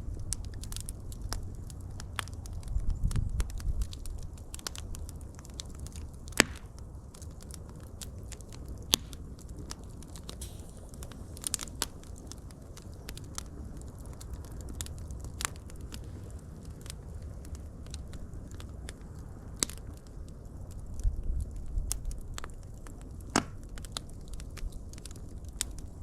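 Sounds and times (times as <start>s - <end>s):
wood fire crackling: 0.0s - 26.0s
sharp pops and snaps: 0.2s - 20.4s, 21.8s - 26.0s.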